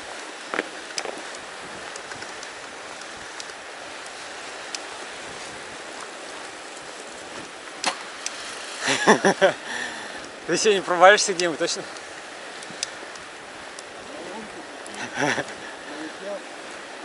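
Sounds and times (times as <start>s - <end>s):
bike tyres hissing over snow: 0.0s - 17.0s.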